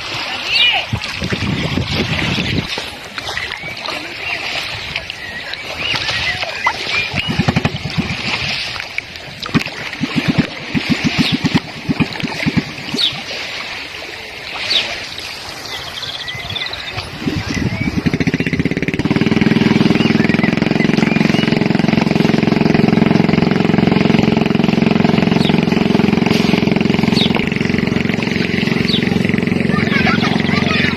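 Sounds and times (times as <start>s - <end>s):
rushing stream water: 0.0s - 30.9s
motor engine running: 1.2s - 13.2s, 15.8s - 30.9s.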